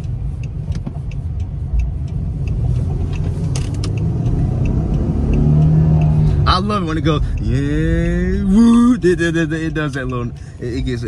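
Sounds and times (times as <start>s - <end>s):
car engine pulling hard: 2.0s - 11.0s.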